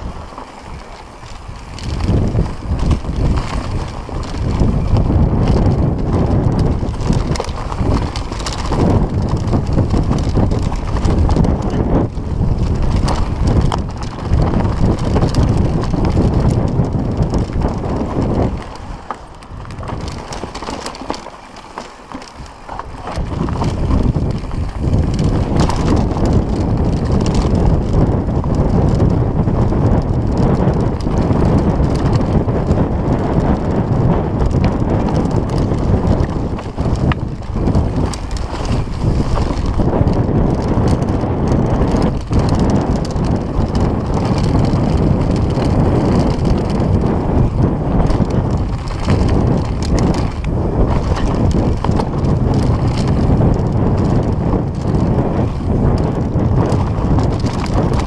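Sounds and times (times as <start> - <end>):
bike rattling and knocking: 0.0 - 58.0
tyre noise on dirt: 0.0 - 58.0
wind rushing over microphone: 0.0 - 58.0.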